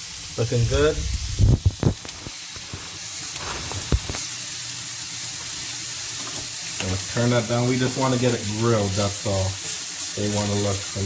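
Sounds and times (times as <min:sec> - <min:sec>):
steak sizzling on grill: 0:00.0 - 0:11.0.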